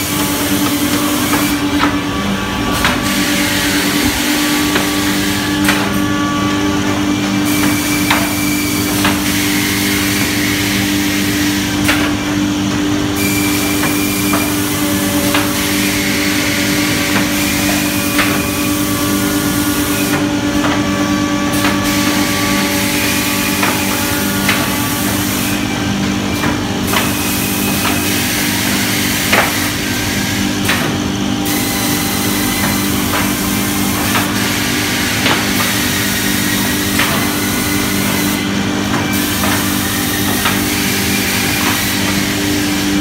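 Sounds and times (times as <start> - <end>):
machine motor hum with whine: 0.0 - 43.0.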